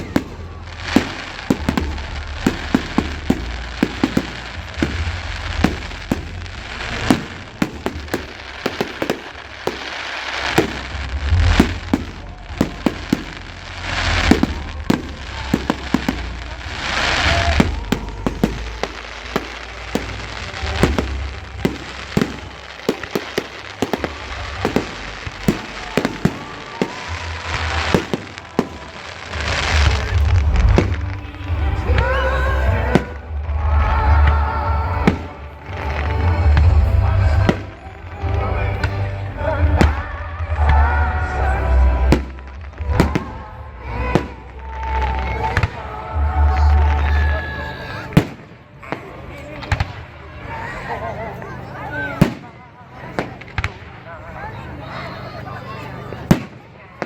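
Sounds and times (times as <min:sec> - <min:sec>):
fireworks hissing: 0:00.0 - 0:48.6
fireworks bangs and crackles: 0:00.0 - 0:57.0.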